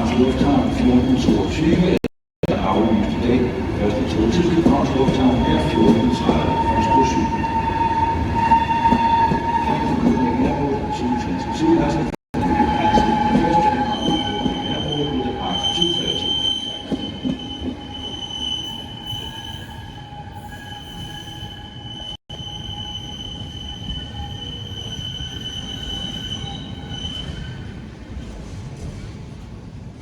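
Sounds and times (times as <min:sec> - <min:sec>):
train wheels squealing on rails: 0:04.6 - 0:29.1.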